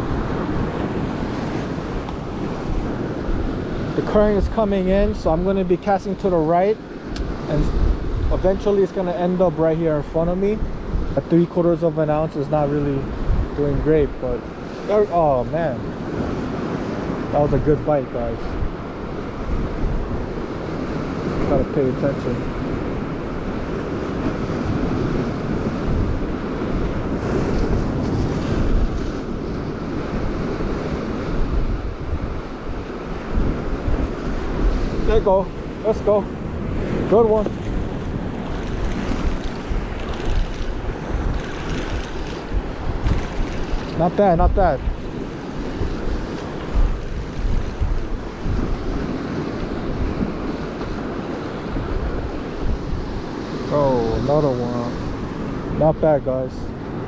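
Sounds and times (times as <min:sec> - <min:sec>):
waves breaking on rocks: 0:00.0 - 0:57.0
wind buffeting microphone: 0:00.0 - 0:57.0.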